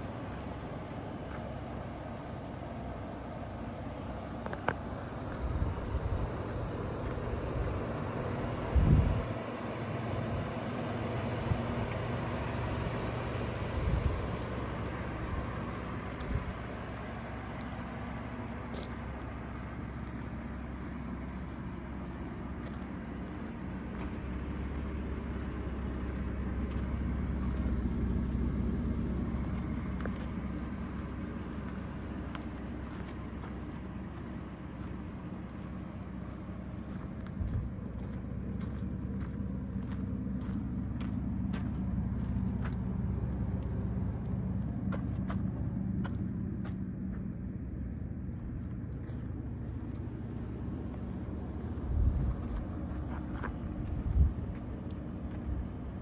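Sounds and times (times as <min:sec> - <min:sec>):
truck engine idling: 0:00.0 - 0:56.0.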